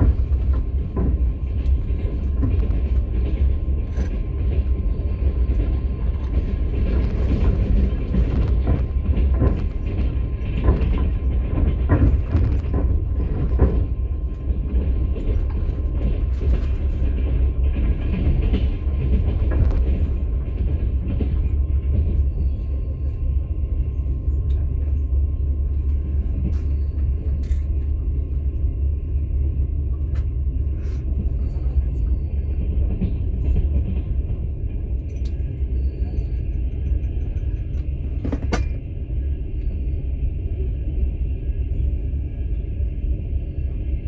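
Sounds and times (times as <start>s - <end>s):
train rumbling: 0.0s - 44.0s.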